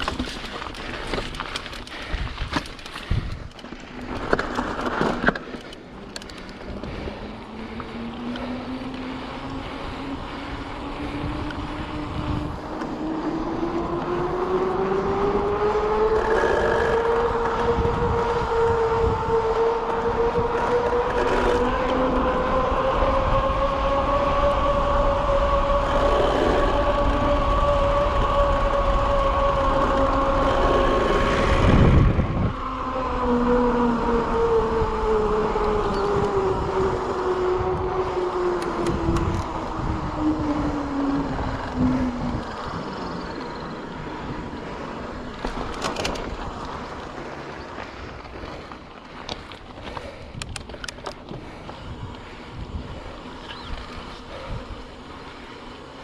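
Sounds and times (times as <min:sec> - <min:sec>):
bicycle freehub buzzing: 0:00.0 - 0:56.0
wind: 0:00.0 - 0:56.0.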